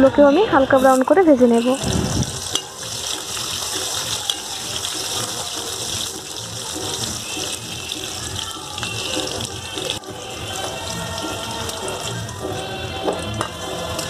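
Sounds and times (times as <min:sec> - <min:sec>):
potatoes sizzling in oil: 0:00.7 - 0:14.0.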